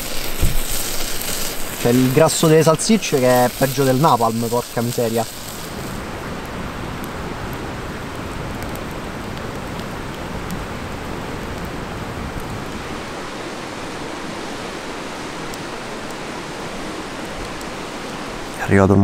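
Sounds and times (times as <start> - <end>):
stream rushing: 0.0 - 18.7
campfire crackles: 0.0 - 19.0.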